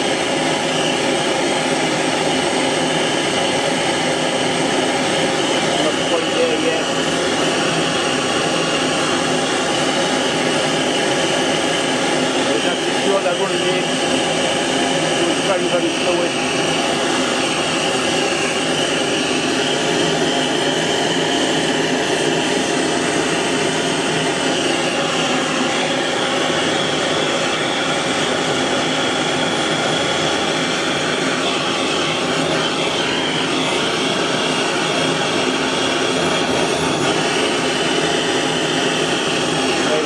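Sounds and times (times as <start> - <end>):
gas torch flame hissing: 0.0 - 40.0.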